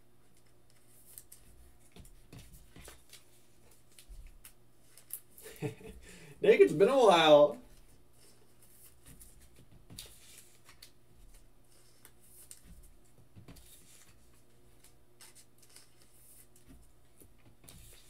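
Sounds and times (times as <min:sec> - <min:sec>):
trading cards rustling and ticking: 0:00.3 - 0:05.5, 0:06.5 - 0:18.0.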